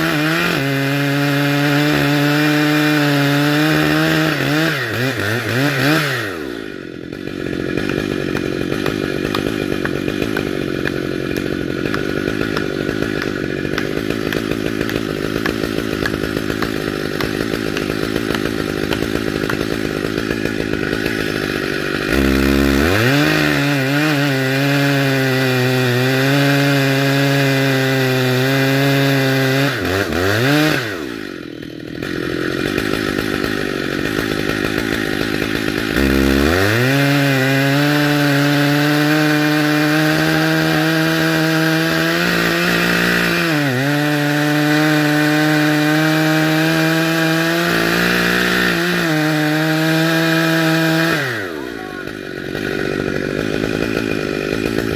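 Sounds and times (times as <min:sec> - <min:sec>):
chainsaw revving and cutting wood: 0:00.0 - 0:54.9.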